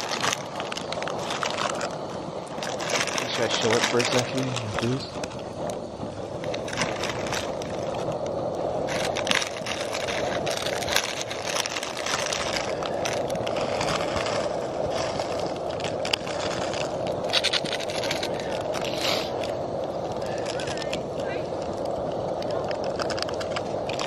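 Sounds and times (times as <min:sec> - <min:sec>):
dry noodles crinkling and crackling: 0:00.0 - 0:24.0
gas stove hissing: 0:00.0 - 0:24.0.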